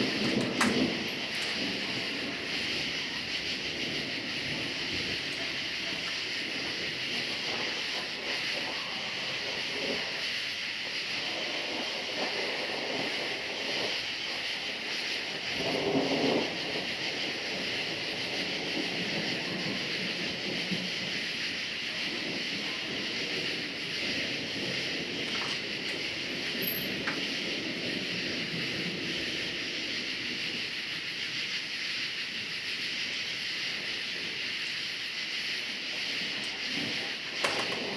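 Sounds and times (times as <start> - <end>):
crickets chirping: 0.0 - 37.9
distant thunder rumbling: 0.0 - 37.9.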